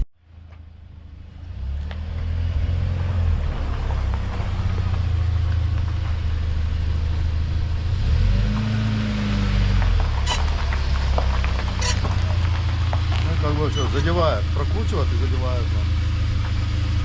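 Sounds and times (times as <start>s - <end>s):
suv engine rumbling: 0.0s - 17.0s.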